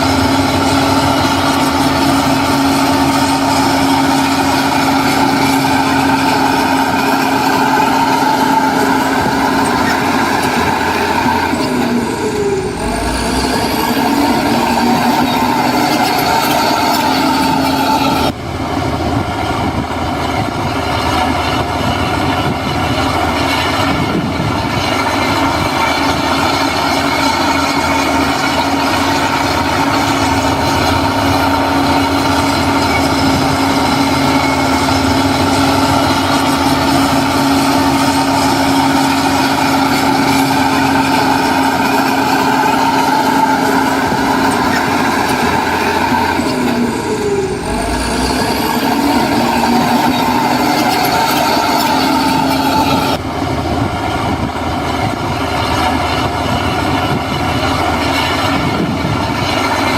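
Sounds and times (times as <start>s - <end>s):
heavy diesel machinery engine: 0.0s - 59.9s
steady whine: 0.0s - 59.9s.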